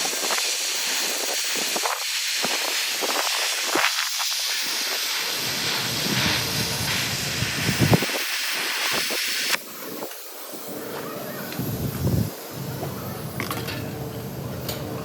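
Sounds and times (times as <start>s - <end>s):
welding arc hissing: 0.0s - 13.4s.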